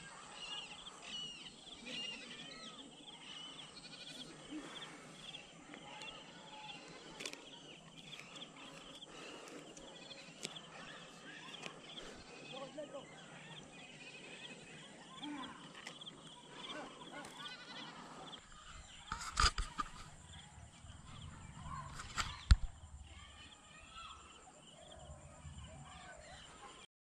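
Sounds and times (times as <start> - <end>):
chirping animal calls: 0.0 - 22.6.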